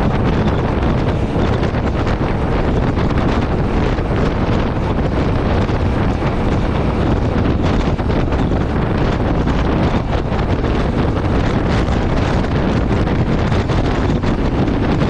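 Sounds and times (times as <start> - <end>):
motorcycle engine: 0.0 - 15.0
road noise: 0.0 - 15.0
wind rushing over microphone: 0.0 - 15.0.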